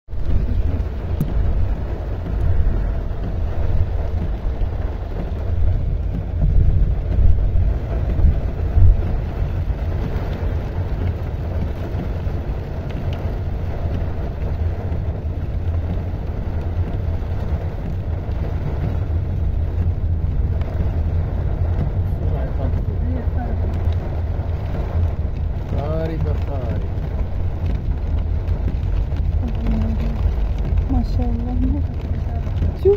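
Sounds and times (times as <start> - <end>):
heavy rain and hail: 0.1 - 32.9
wind buffeting microphone: 0.1 - 32.9.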